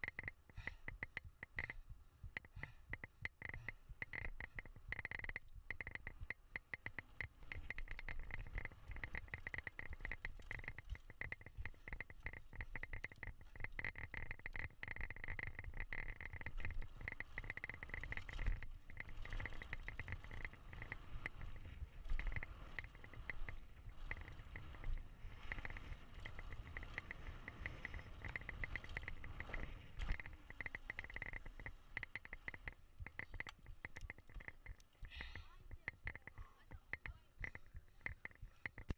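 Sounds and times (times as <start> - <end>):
bike rattling: 0.0 - 1.8, 2.4 - 38.9.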